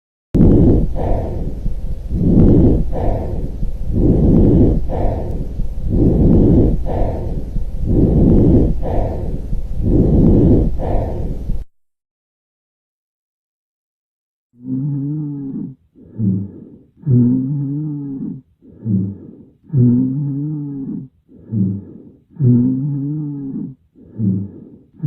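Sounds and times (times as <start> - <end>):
lung breath sounds through stethoscope: 0.4 - 11.7, 14.6 - 25.0.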